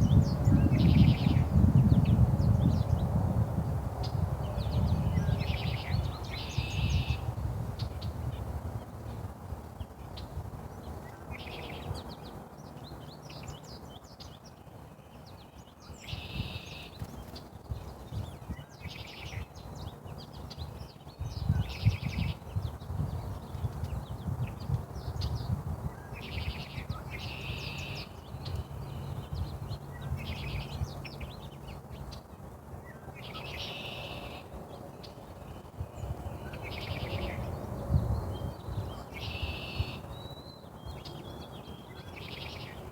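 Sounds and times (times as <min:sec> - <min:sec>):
small birds chirping: 0:00.0 - 0:03.2, 0:04.0 - 0:09.2, 0:09.8 - 0:42.9.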